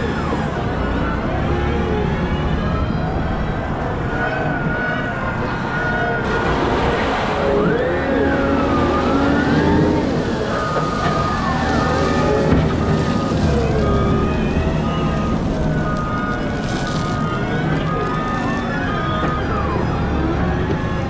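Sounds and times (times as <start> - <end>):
wheel loader engine under load: 0.0 - 21.0
whining hydraulic tones: 0.0 - 21.0.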